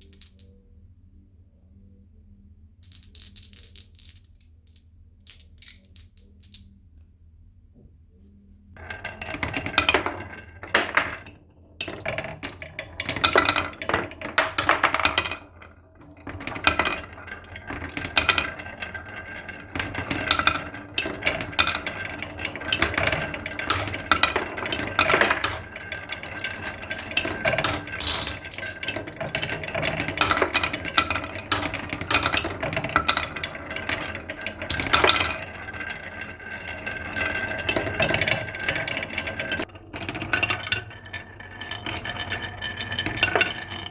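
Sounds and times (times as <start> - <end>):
marbles rolling down wooden track: 0.0 - 0.5, 2.8 - 6.6, 8.8 - 43.9.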